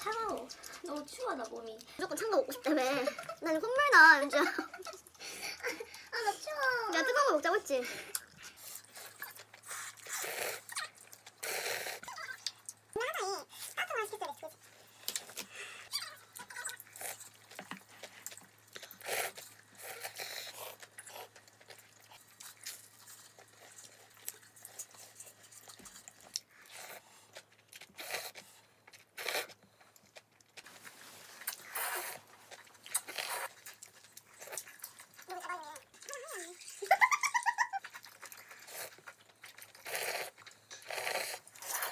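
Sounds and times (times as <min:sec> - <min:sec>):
person chewing food: 0:00.0 - 0:03.4, 0:04.6 - 0:06.3, 0:08.0 - 0:13.0, 0:13.6 - 0:41.9.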